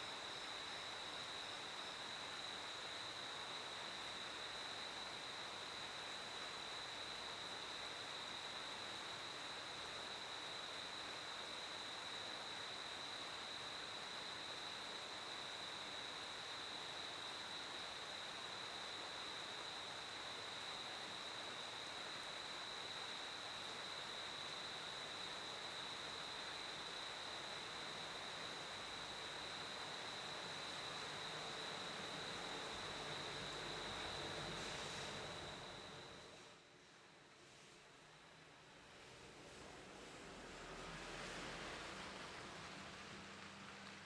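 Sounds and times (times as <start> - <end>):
crickets trilling: 0.0 - 36.5
steady hiss: 0.0 - 44.0.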